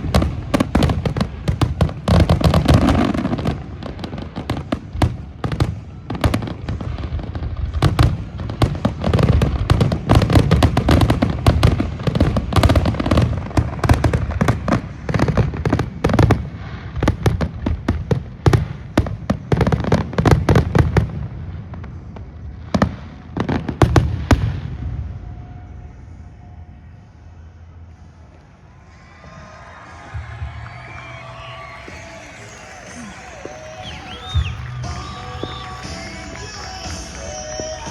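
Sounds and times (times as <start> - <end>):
fireworks bursting and crackling: 0.0 - 27.2, 27.9 - 37.9.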